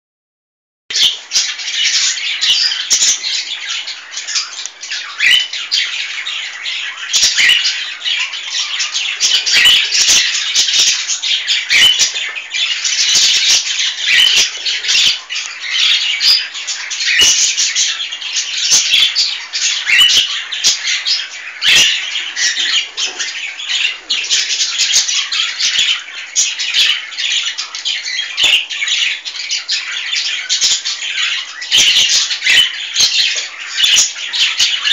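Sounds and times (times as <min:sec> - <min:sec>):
cockatiel chick calling: 0:00.9 - 0:34.9.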